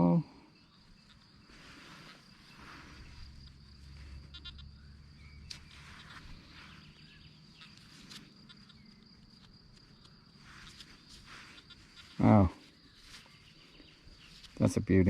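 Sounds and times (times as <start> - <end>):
distant animal calls: 0.5 - 14.5.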